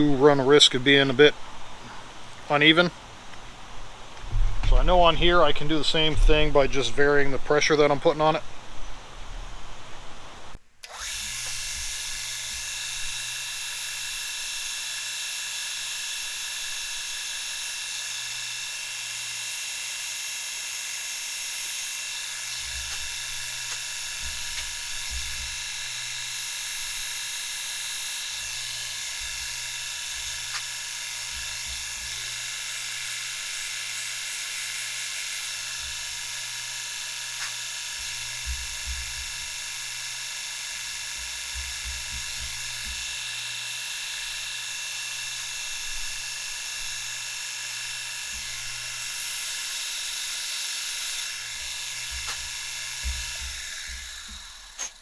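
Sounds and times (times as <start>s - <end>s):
low motor hum: 0.0s - 13.3s, 22.1s - 34.3s, 35.4s - 54.8s
high grinding hiss: 9.8s - 55.0s.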